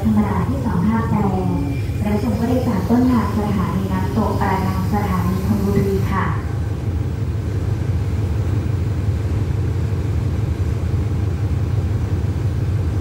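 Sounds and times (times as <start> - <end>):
diesel locomotive idling: 0.0 - 12.9.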